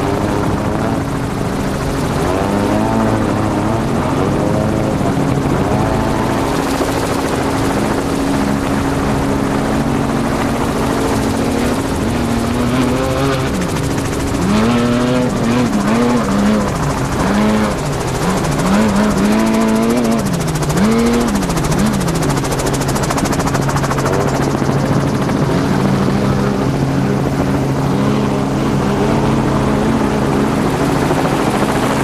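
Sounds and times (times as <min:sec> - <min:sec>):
helicopter drone: 0:00.0 - 0:32.0
truck engine revving: 0:00.0 - 0:32.0.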